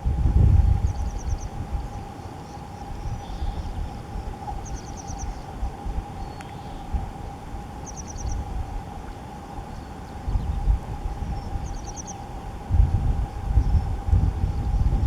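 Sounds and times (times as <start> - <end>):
faint steady whine: 0.0 - 15.0
wind rumble on microphone: 0.0 - 15.0.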